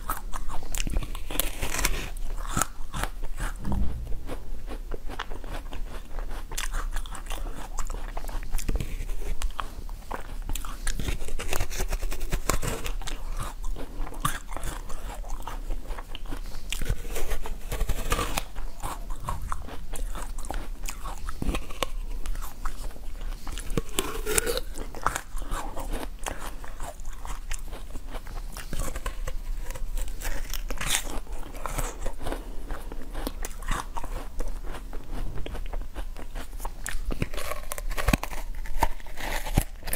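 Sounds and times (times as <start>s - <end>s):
teeth biting and crunching ice: 0.0s - 39.9s.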